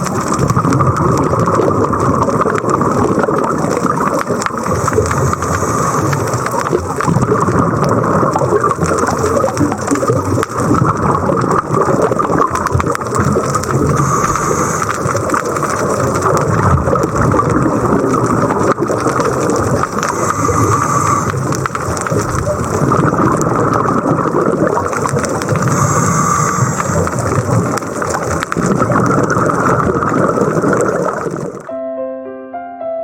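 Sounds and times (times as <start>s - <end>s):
regulator bubbles underwater: 0.0s - 31.7s.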